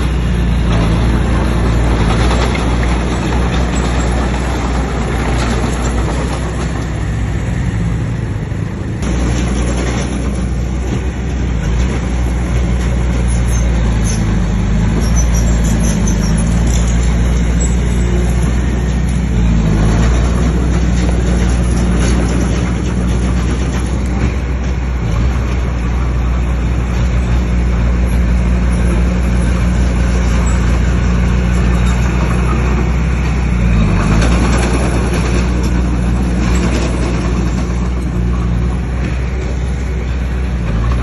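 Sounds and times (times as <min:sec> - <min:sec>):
bulldozer diesel engine running: 0:00.0 - 0:41.0.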